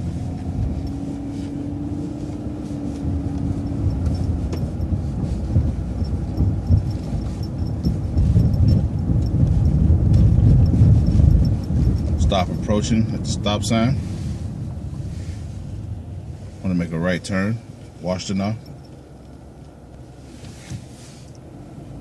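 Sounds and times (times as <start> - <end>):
light regular ticking: 0.0 - 20.2
bus engine and road rumble: 0.0 - 22.0.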